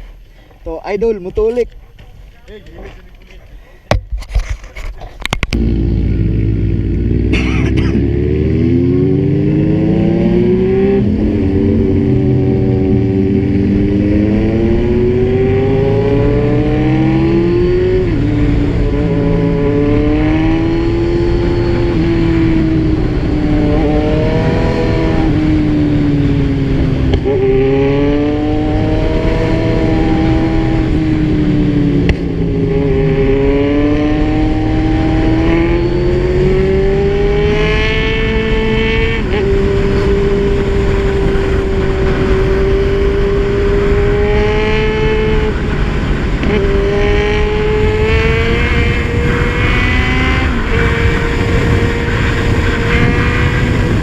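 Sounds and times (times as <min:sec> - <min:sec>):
motorcycle engine revving: 0:05.4 - 0:54.0.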